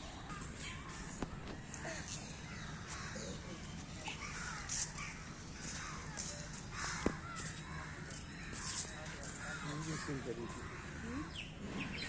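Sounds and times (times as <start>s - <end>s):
bird chatter: 0.0s - 12.0s
crows cawing: 1.7s - 11.4s.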